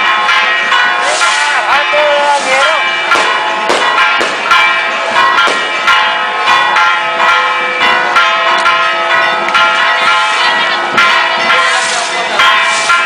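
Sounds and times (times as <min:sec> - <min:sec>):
church bells clanging rapidly: 0:00.0 - 0:13.0.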